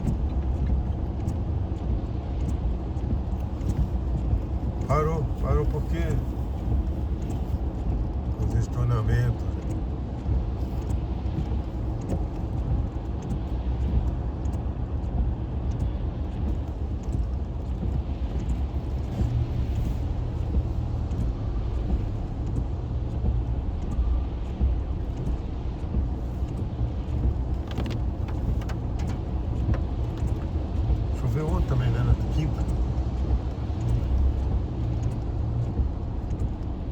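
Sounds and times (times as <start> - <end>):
car engine and cabin noise: 0.0 - 36.9.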